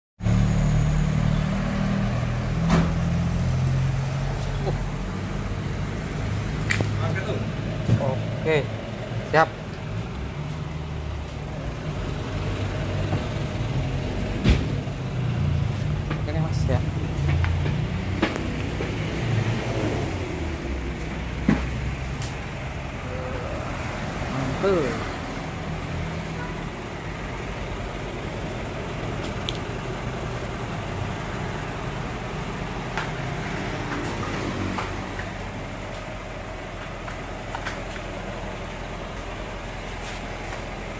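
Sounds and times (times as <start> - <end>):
vehicle engine rumbling: 0.2 - 40.9.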